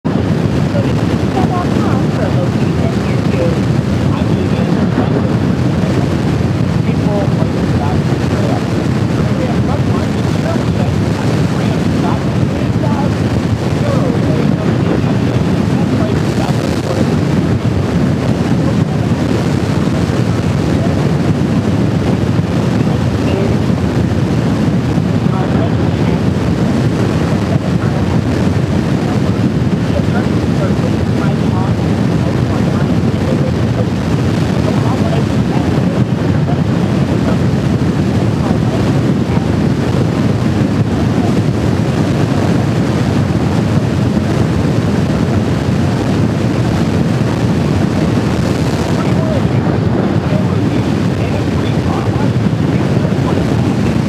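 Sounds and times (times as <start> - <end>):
motorcycle engine drone: 0.0 - 54.0
wind buffeting microphone: 0.0 - 54.0.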